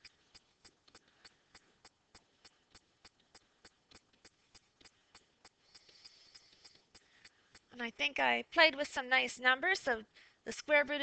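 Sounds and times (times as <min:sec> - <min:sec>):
faint evenly spaced ticks: 0:00.0 - 0:10.8.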